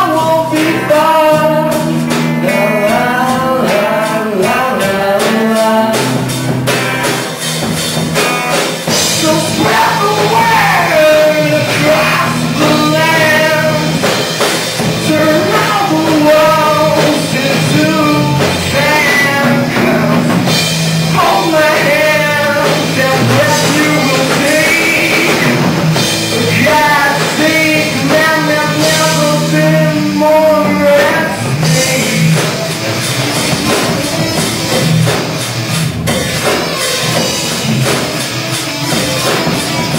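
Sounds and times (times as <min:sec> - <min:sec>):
rock song with sung vocal: 0:00.0 - 0:39.9.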